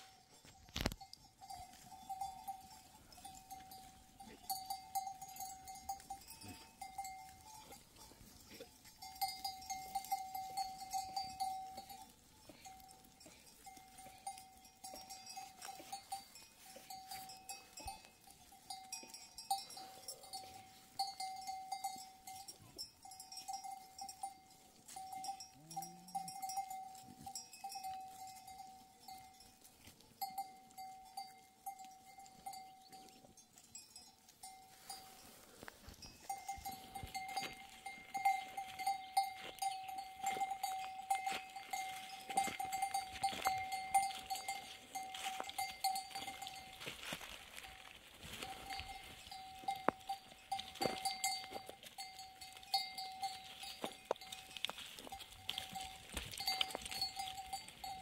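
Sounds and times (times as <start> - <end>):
animal bells clanking: 0.0 - 58.0.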